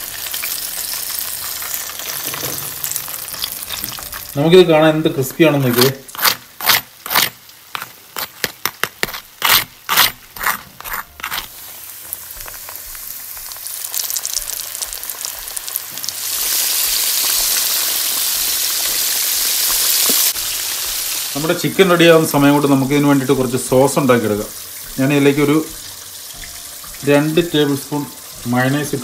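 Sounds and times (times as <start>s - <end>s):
chicken frying in hot oil: 0.0s - 8.4s, 11.5s - 29.0s.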